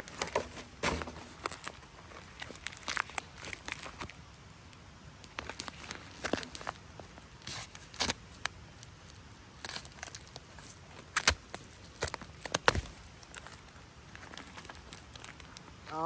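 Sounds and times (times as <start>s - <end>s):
plastic pouch crinkling: 0.0s - 4.4s, 5.2s - 15.8s.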